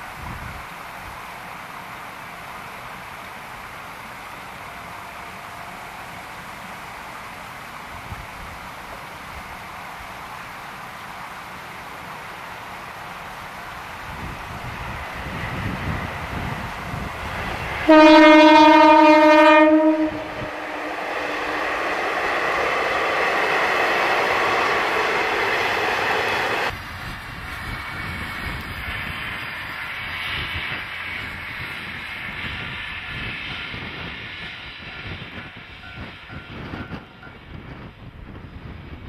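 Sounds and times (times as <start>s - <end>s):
railcar running on track: 0.0s - 39.0s
train rushing: 0.0s - 39.0s.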